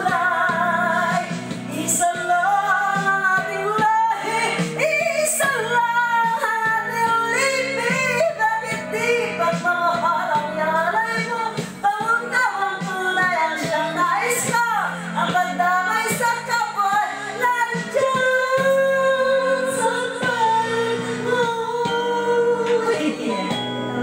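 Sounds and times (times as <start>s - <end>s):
karaoke backing music: 0.0s - 24.0s
woman singing into a microphone: 0.0s - 24.0s.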